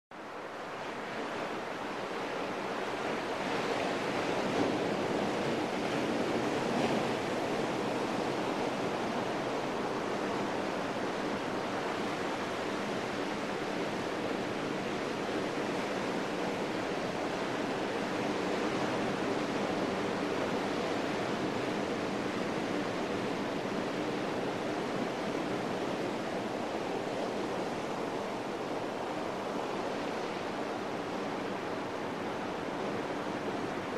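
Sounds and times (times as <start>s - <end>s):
surf washing onto beach: 0.2s - 33.9s.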